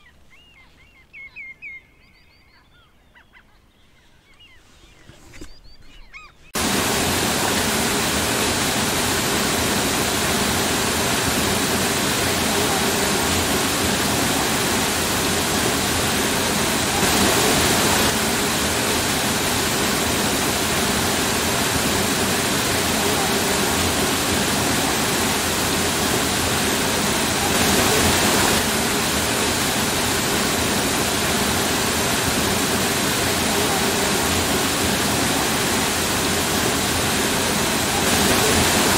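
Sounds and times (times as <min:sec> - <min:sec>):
waterfall rushing: 0:06.6 - 0:38.9.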